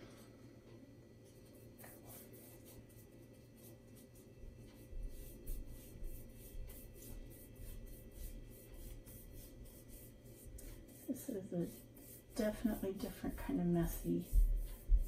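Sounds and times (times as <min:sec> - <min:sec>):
brush swishing across sheet: 0:01.3 - 0:15.0.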